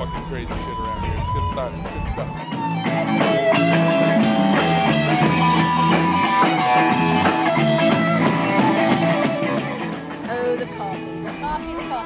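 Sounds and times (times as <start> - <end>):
electric guitar notes: 0.0 - 12.0
drum kit beat: 1.7 - 12.0.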